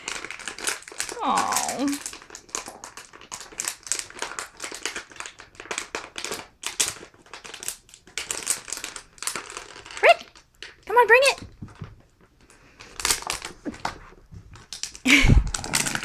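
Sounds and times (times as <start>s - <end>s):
plastic bottle crinkling: 0.0s - 16.0s.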